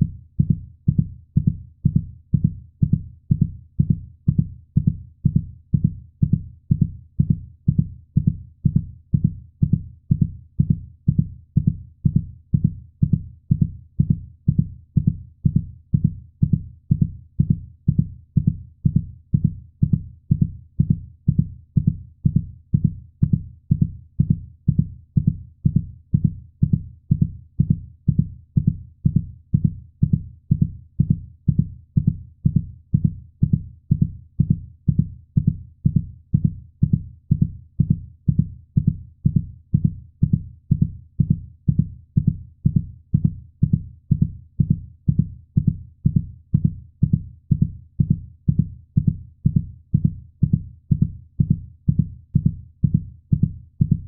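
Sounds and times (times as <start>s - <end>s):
heartbeat thumps: 0.0s - 54.0s.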